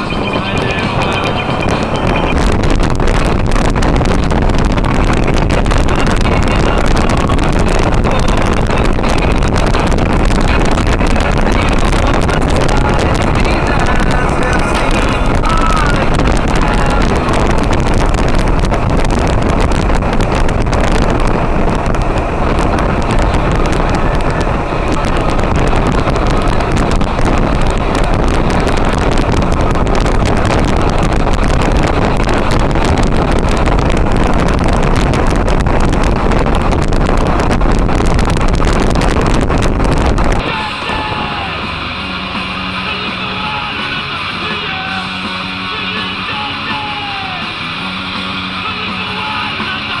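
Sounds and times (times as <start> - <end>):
motorcycle engine: 0.0 - 49.3
wind buffeting microphone: 0.0 - 50.0.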